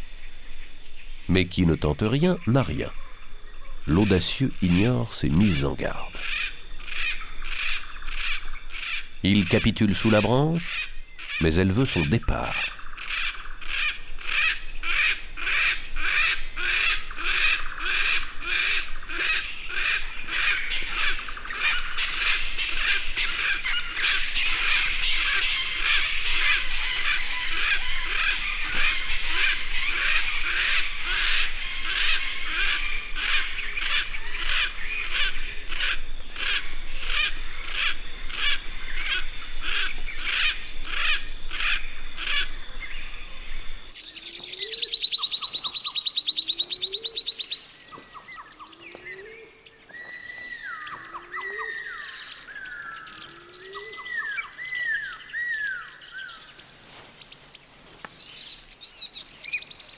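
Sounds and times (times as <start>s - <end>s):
chorus of animal calls: 1.6s - 57.0s.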